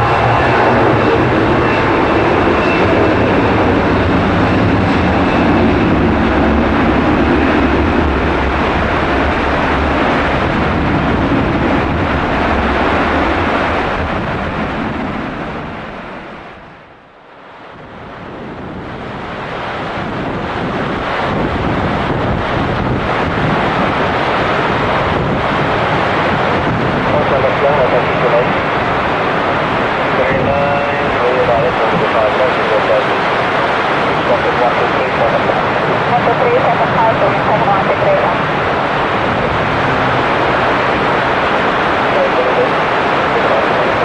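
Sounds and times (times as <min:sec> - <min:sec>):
heavy rain: 0:00.0 - 0:16.8, 0:17.5 - 0:44.0
jet engines rumbling: 0:00.0 - 0:44.0
wind noise: 0:00.0 - 0:44.0.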